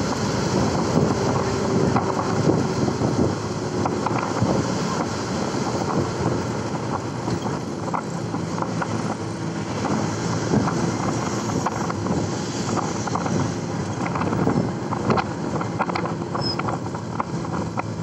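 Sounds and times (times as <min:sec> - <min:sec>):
vehicle engine and road noise: 0:00.0 - 0:18.0
wind buffeting microphone: 0:00.0 - 0:18.0.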